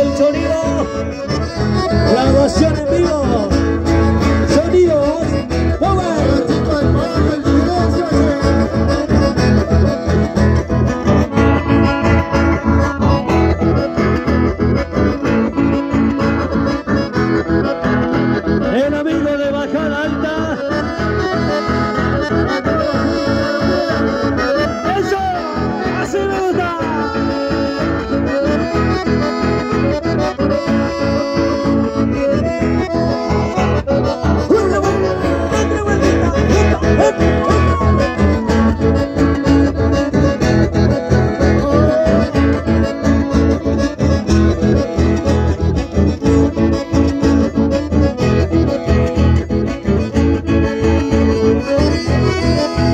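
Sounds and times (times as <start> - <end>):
button accordions playing: 0.0 - 52.9
guitars strumming: 0.0 - 52.9
live band dance music: 0.0 - 52.9.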